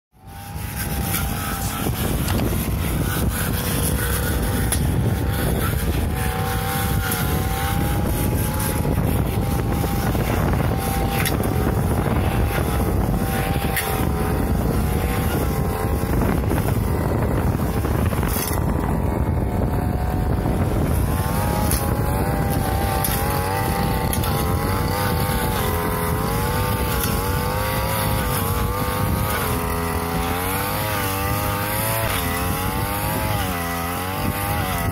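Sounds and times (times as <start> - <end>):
brush cutter engine cutting grass: 0.1 - 34.9.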